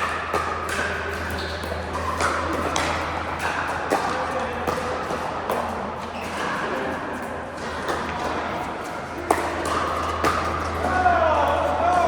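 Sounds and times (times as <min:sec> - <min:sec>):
background murmur: 0:00.5 - 0:12.0.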